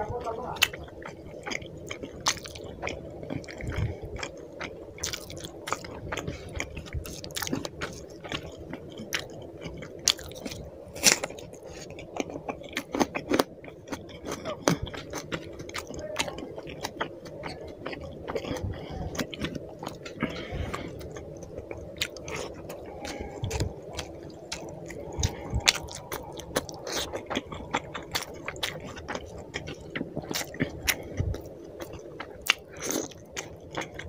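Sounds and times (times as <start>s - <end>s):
wet chewing: 0.0s - 34.0s.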